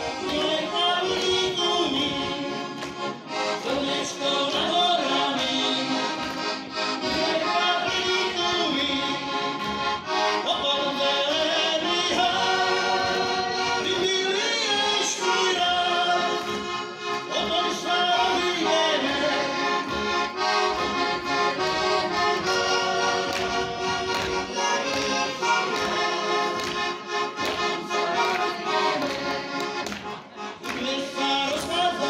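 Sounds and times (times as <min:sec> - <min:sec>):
button accordions playing folk tune: 0:00.0 - 0:32.0.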